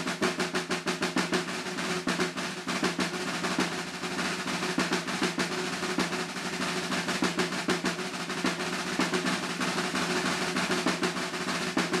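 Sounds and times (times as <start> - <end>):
snare drum rolls: 0.0 - 12.0.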